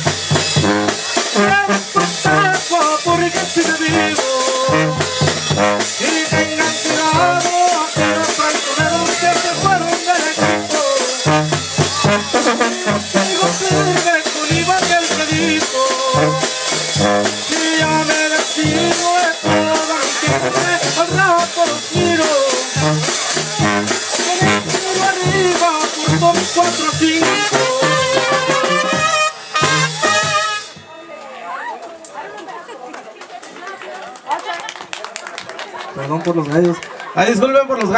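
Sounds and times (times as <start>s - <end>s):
brass band dance music: 0.0s - 31.6s.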